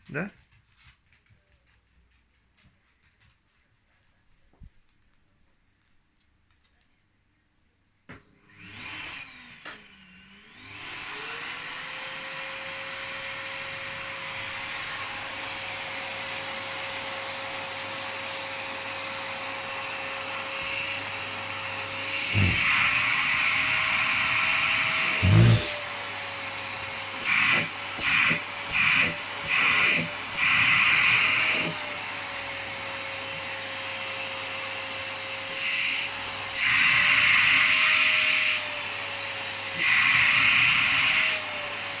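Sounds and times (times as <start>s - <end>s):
vacuum cleaner whining: 8.1s - 42.0s.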